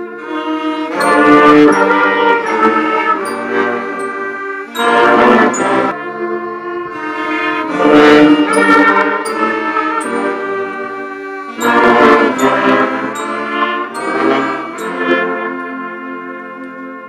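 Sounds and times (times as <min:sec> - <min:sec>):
slow brass music: 0:00.0 - 0:17.0.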